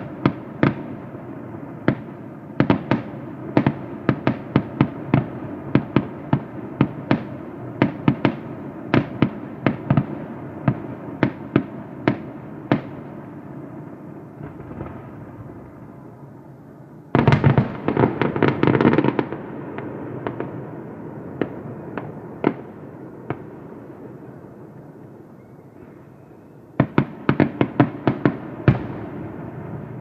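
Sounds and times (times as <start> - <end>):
fireworks bursting: 0.0 - 25.2, 26.8 - 30.0.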